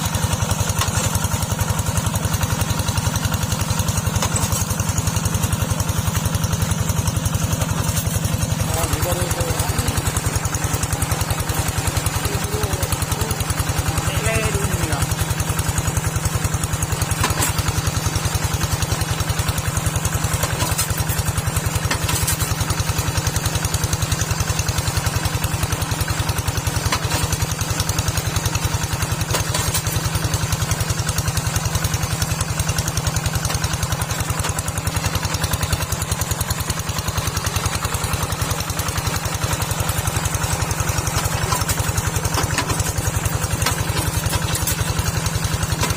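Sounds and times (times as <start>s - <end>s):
tractor engine puttering: 0.0s - 45.9s.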